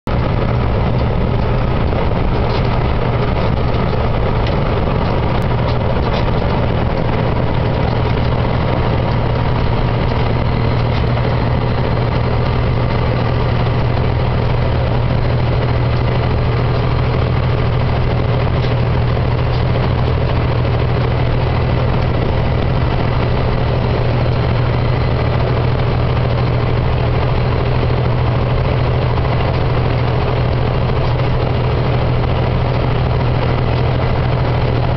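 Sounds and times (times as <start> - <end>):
vehicle engine and road drone: 0.0 - 34.9.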